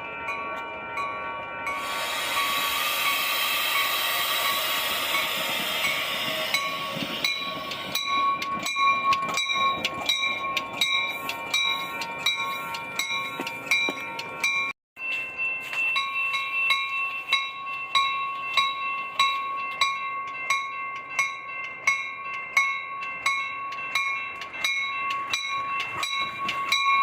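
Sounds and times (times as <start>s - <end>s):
steady ringing tone: 0.0s - 27.0s
train wheels on rails: 0.0s - 27.0s.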